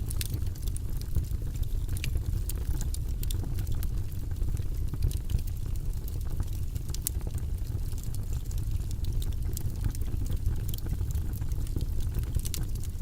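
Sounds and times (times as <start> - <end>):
fire crackling and popping: 0.0 - 13.0
flames rumbling: 0.0 - 13.0.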